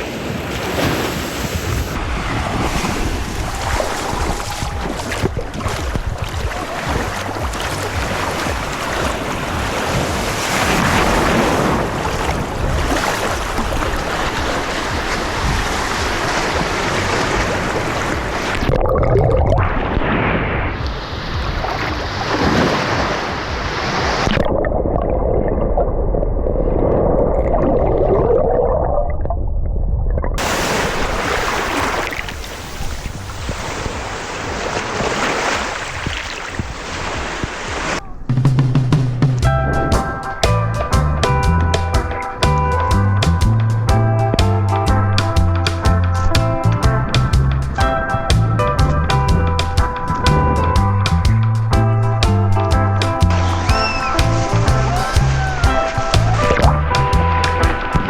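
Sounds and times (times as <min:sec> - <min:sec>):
waves washing: 0:00.0 - 0:25.6, 0:30.4 - 0:58.0
wind buffeting microphone: 0:00.0 - 0:28.3, 0:29.4 - 0:58.0.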